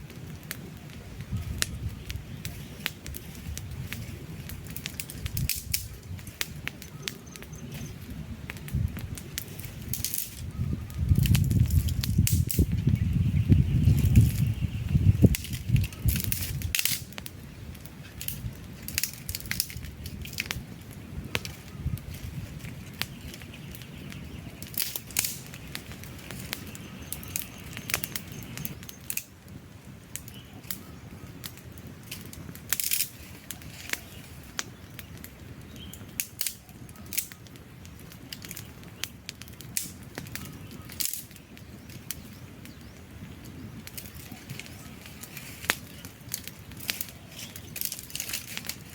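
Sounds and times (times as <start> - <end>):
logs crackling and popping: 0.0 - 48.9
low rush of flame: 0.0 - 48.9.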